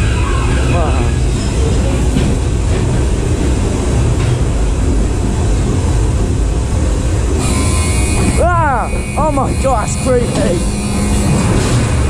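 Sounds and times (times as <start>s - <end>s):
ride car rumbling on track: 0.0s - 12.0s.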